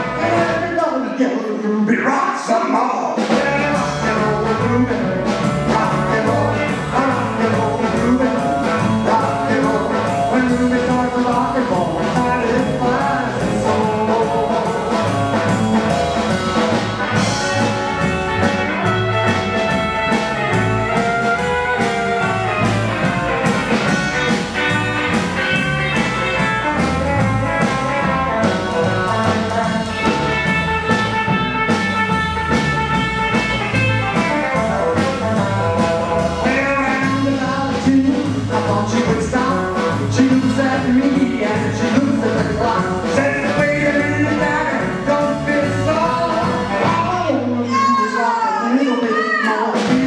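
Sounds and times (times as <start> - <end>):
drum kit steady beat: 0.0 - 0.8, 3.2 - 47.9, 49.8 - 50.0
electric guitar: 0.0 - 0.8, 3.2 - 47.7
rockabilly band instrumental: 0.0 - 0.9, 3.2 - 48.0, 49.7 - 50.0.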